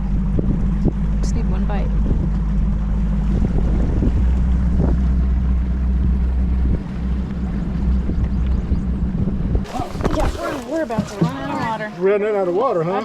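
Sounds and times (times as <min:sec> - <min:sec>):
wind rushing over microphone: 0:00.0 - 0:10.6
outboard motor running: 0:00.0 - 0:13.0.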